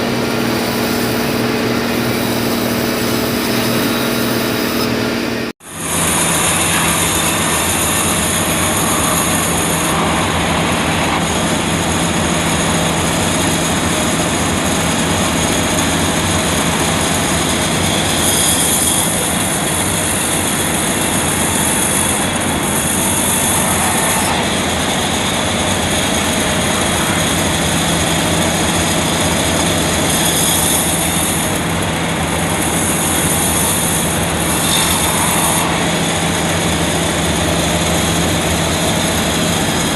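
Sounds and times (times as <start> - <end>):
loud hiss: 0.0 - 39.9
machinery low hum: 0.0 - 39.9.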